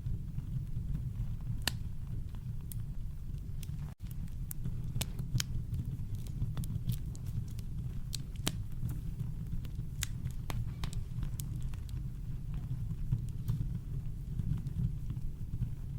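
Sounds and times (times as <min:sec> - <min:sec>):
campfire crackling: 0:00.0 - 0:15.9.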